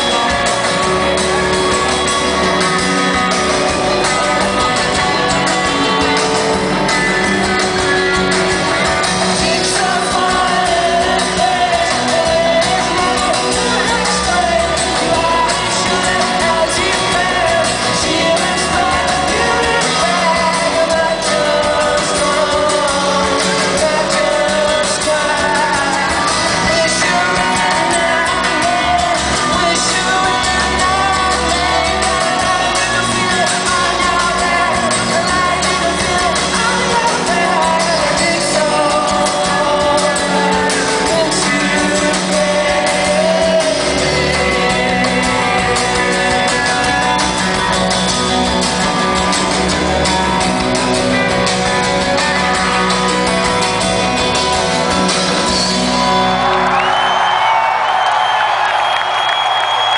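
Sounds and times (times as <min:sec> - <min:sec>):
person singing: 0:00.0 - 0:56.9
crowd cheering and applauding: 0:00.0 - 0:59.9
live rock band playing: 0:00.0 - 0:59.9.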